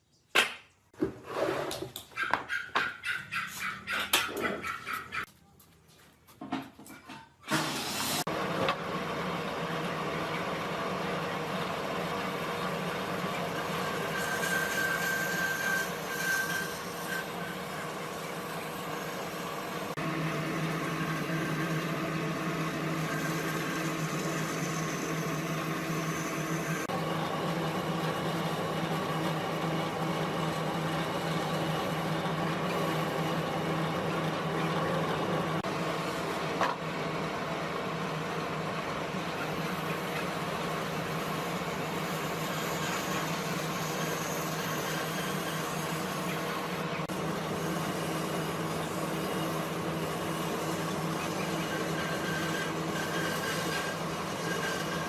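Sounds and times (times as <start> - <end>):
woodworking machine running: 7.5 - 55.0.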